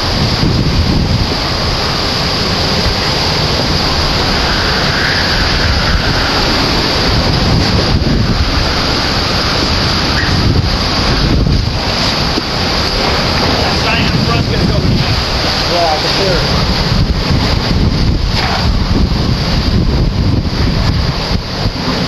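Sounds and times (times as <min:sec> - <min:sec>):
strong wind roaring: 0:00.0 - 0:22.0.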